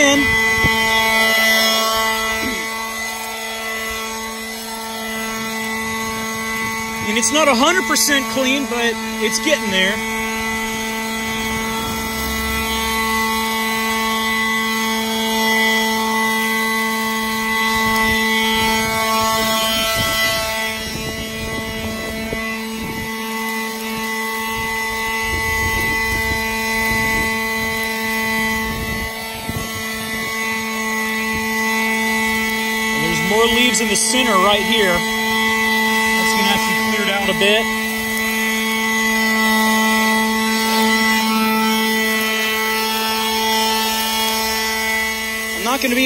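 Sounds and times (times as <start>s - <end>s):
leaf blower whining: 0.0s - 46.0s.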